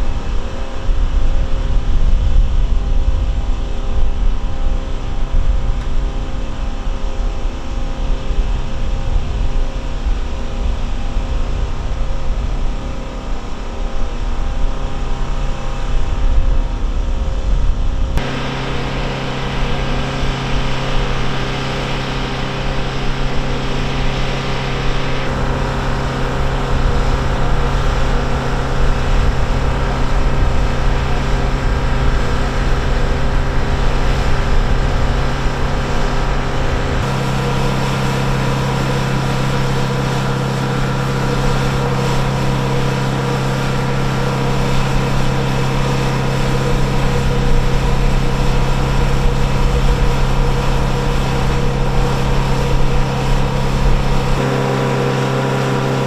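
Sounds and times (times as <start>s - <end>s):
aircraft turbine noise: 0.0s - 56.0s.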